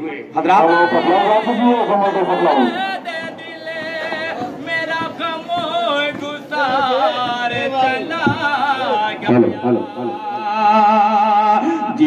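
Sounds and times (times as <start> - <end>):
man singing unaccompanied: 0.4 - 12.0.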